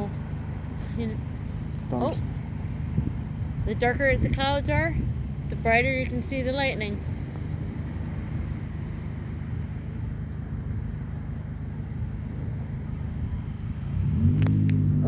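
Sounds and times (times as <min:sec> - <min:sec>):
car engine accelerating: 0:00.0 - 0:15.0
motor vehicle rumble: 0:00.0 - 0:15.0.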